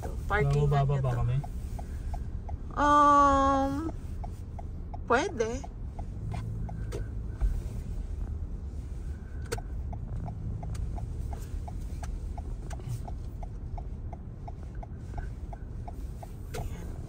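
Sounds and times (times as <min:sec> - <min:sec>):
low hum of car interior: 0:00.0 - 0:17.0
turn-signal indicator ticking: 0:00.0 - 0:17.0.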